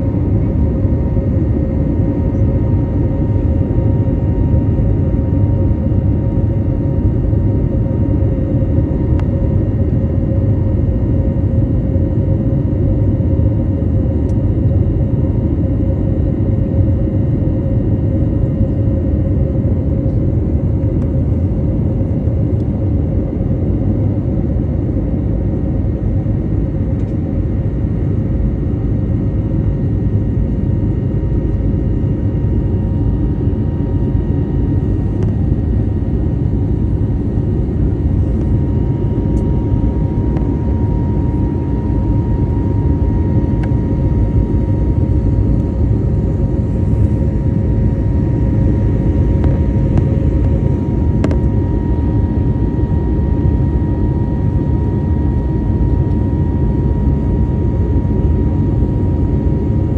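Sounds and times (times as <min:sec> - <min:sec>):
airliner engine rumble: 0:00.0 - 0:59.9
faint steady hums: 0:00.0 - 0:59.9.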